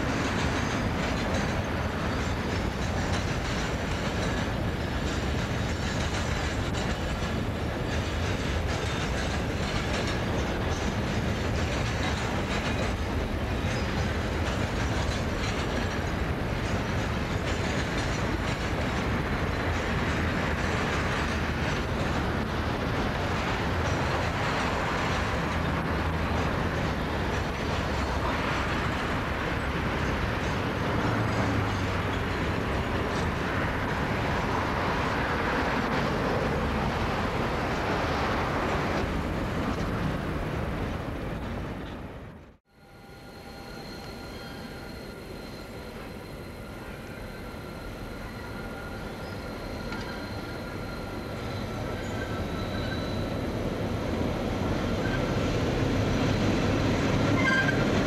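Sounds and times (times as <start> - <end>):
train wagons rolling on rails: 0.0 - 58.0.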